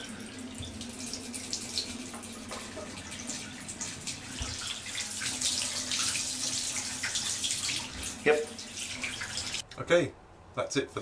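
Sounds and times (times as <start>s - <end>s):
tap water splashing into bath: 0.5s - 9.6s.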